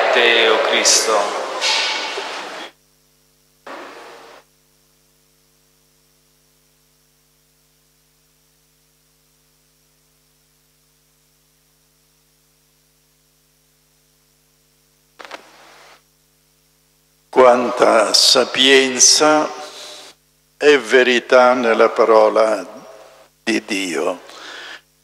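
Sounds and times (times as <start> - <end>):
faint mains hum: 0.0 - 25.0.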